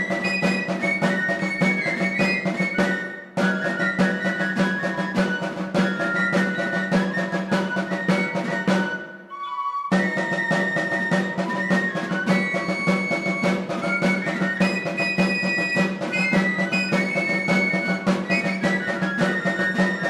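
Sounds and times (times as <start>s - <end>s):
steady drum beat: 0.0s - 9.2s, 9.9s - 20.0s.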